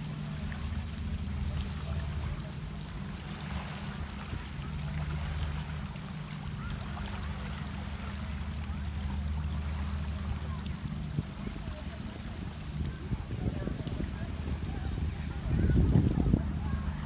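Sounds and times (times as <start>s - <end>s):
waves lapping on pebbles: 0.0s - 17.0s.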